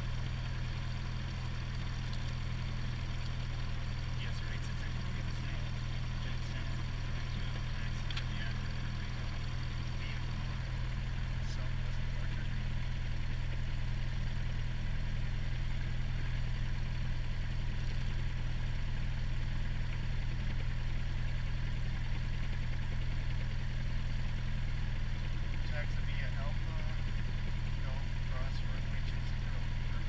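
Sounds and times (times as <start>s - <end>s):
propeller plane engine idling: 0.0s - 30.0s.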